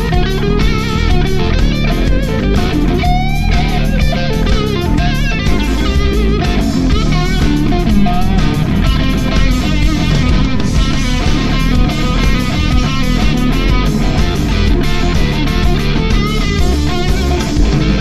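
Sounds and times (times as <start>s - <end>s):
drum kit: 0.0s - 18.0s
electric bass: 0.0s - 18.0s
electric guitar lead: 0.0s - 18.0s.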